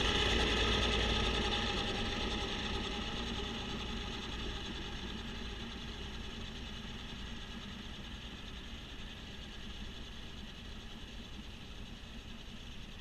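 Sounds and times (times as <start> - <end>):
snowblower running: 0.0 - 11.8.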